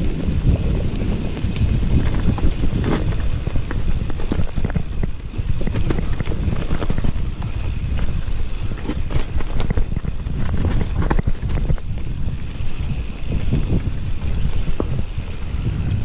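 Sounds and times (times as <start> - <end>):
bike clicking and rattling: 0.0 - 16.0
tyres rumbling over dirt: 0.0 - 16.0
wind rushing over microphone: 0.0 - 16.0.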